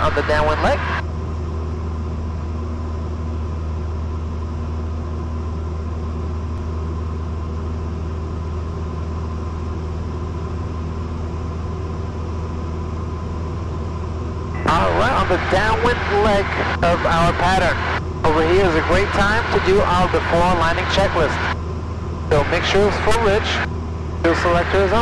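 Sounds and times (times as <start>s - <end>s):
plane engine droning: 0.0s - 25.0s.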